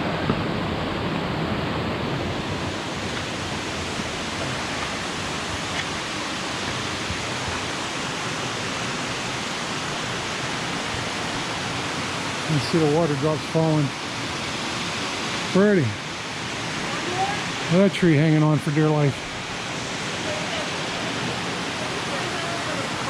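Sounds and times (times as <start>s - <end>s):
flowing falling water: 0.0s - 23.0s.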